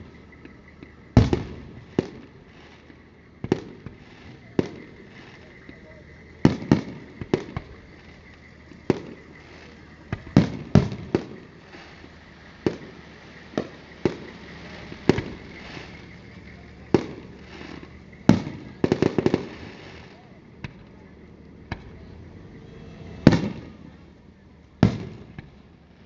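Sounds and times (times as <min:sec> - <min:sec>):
fireworks shells booming: 0:00.0 - 0:26.0.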